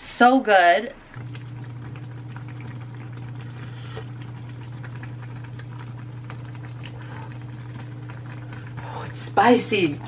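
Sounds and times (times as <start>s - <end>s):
stew bubbling and popping: 0.9s - 10.0s
steady low hum: 1.1s - 10.0s.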